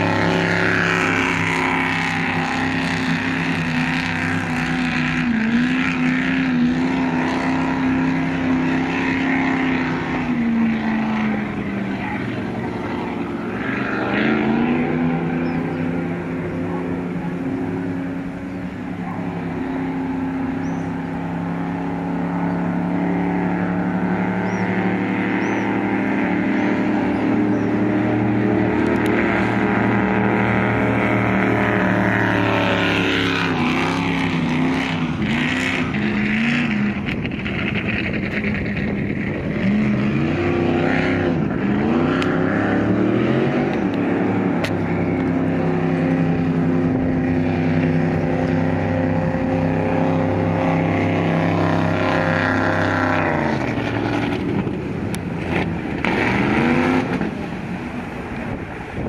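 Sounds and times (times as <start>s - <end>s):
powerboat engine running hard: 0.0s - 59.0s.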